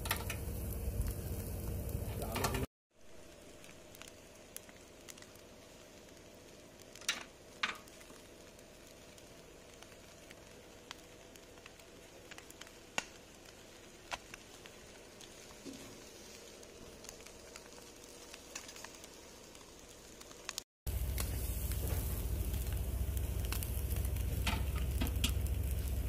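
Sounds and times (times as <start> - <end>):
charcoal fire hissing: 0.0 - 26.0
fire popping: 0.0 - 26.0.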